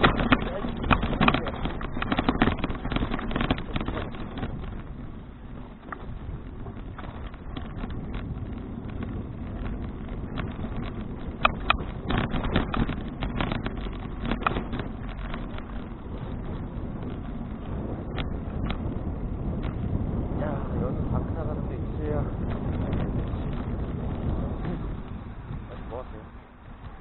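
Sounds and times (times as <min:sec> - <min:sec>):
bicycle clicks and rattles: 0:00.0 - 0:27.0
tyres rumbling on road: 0:00.0 - 0:27.0
wind buffeting microphone: 0:00.0 - 0:27.0.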